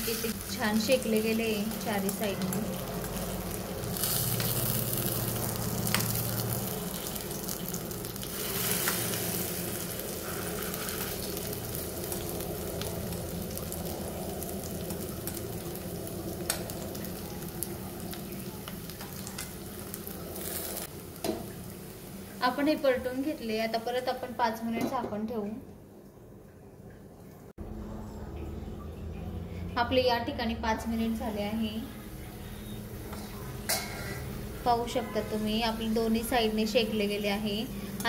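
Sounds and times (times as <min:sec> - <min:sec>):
food sizzling in oil: 0:00.0 - 0:24.6, 0:31.0 - 0:38.0.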